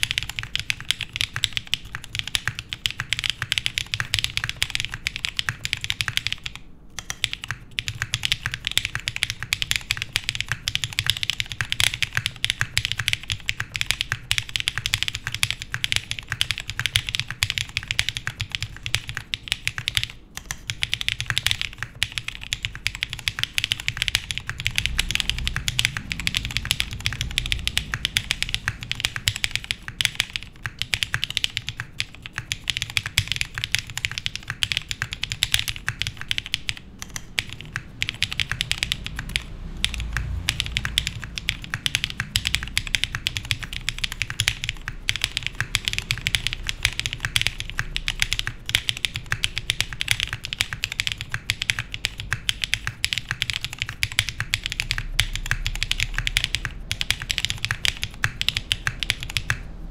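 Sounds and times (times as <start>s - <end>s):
fast typing on mechanical keyboard: 0.0s - 59.9s.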